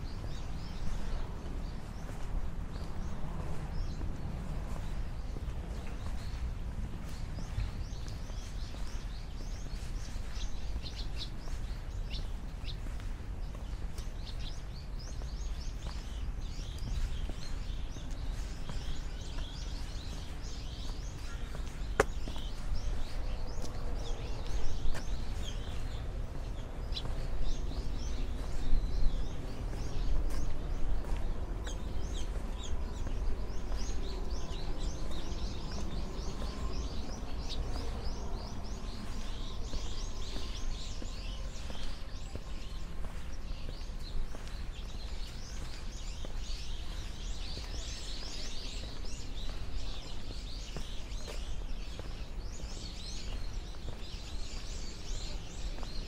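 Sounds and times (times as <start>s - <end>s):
songbirds chirping and twittering: 0.0s - 56.0s
steady low rumble: 0.0s - 56.0s.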